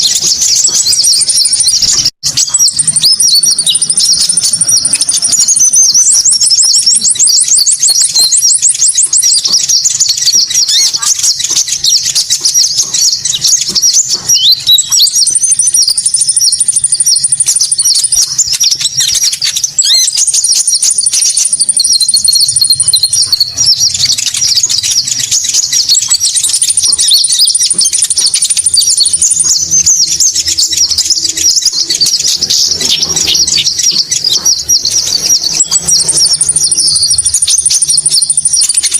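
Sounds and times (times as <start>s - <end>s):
high bird chirps and twitters: 0.0s - 38.9s.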